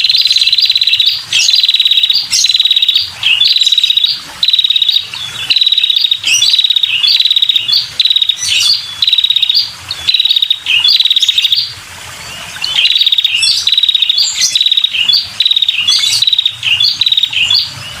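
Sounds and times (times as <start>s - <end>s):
bird buzzy rattling trills: 0.0s - 18.0s.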